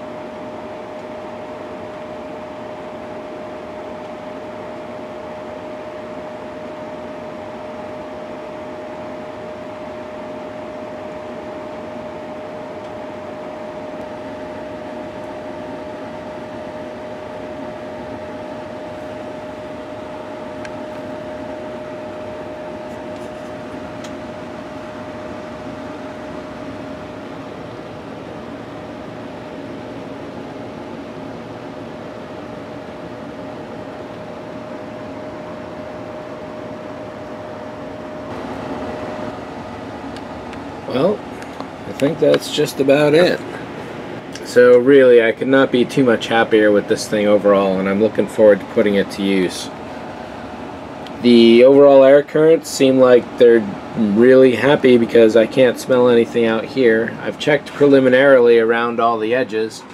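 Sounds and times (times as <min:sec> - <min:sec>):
blower whine: 0:00.0 - 0:59.9
exhaust blower rushing air: 0:00.0 - 0:59.9.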